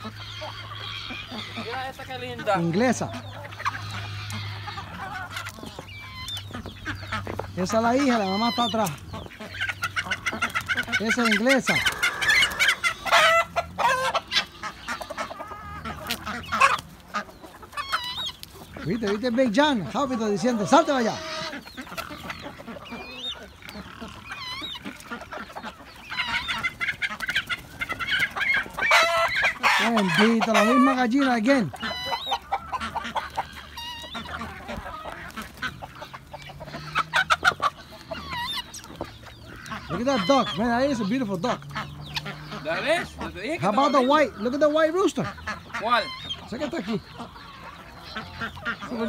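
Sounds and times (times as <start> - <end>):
chickens clucking and squawking: 0.0 - 49.0
ducks honking: 0.0 - 49.0.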